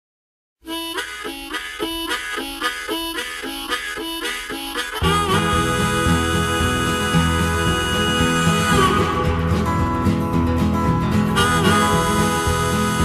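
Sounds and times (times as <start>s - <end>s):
harmonica playing rhythmic figure: 0.6s - 13.0s
band playing with bass: 0.8s - 13.0s.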